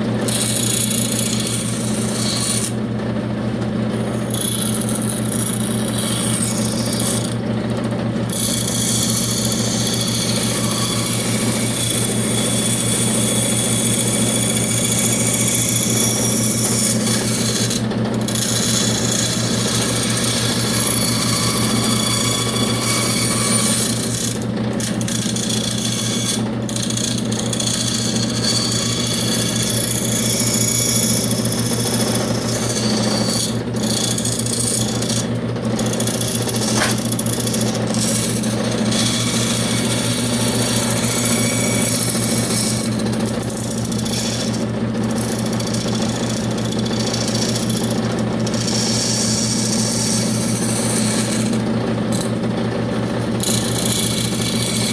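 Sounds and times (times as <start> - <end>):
electric saw cutting wood: 0.0 - 54.9.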